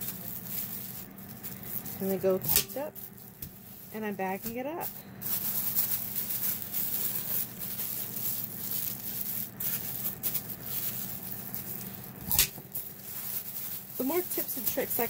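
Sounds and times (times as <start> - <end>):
tape bag sealer snapping: 0.0 - 3.5, 5.3 - 15.0
plastic bag crinkling: 0.0 - 15.0.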